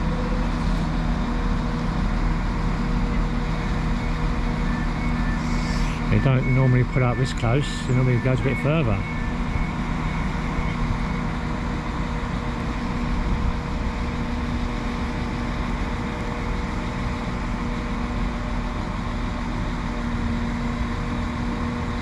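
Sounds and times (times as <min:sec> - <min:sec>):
diesel train engines idling: 0:00.0 - 0:20.1.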